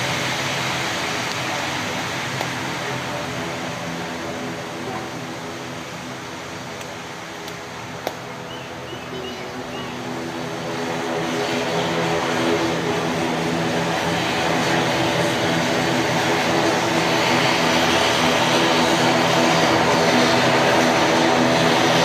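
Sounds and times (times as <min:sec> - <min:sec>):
turboprop engines humming: 0:00.0 - 0:22.0.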